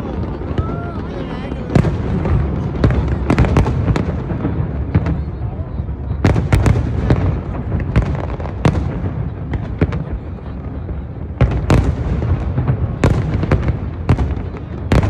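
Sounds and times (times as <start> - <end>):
firework bangs: 0.0 - 15.0
low rumble of fireworks: 0.0 - 15.0.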